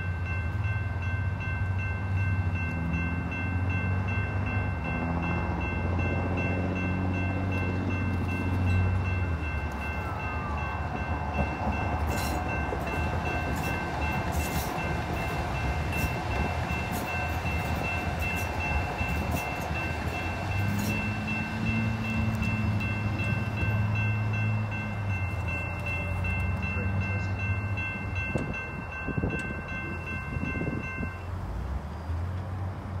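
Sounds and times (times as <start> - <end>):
level crossing warning bell: 0.0 - 31.6
light rail train rumbling: 0.0 - 33.0.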